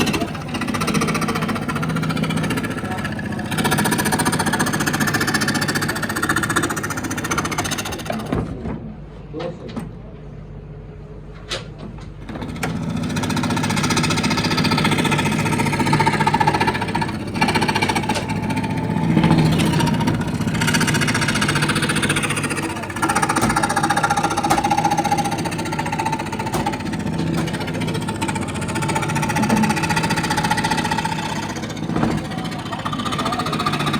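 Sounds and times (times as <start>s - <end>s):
woodworking power tool humming: 0.0s - 8.5s, 12.1s - 33.9s.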